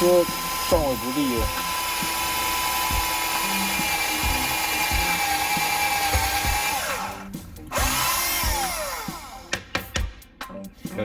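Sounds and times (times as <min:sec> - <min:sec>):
electric drill boring into wood: 0:00.0 - 0:09.6.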